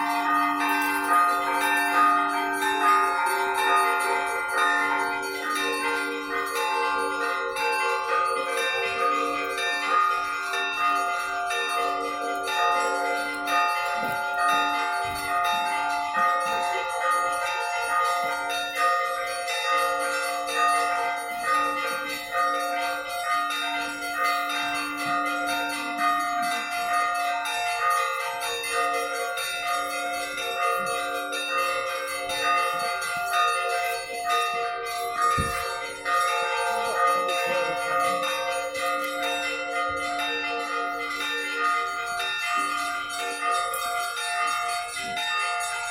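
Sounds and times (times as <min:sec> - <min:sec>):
church bells pealing: 0:00.0 - 0:45.9.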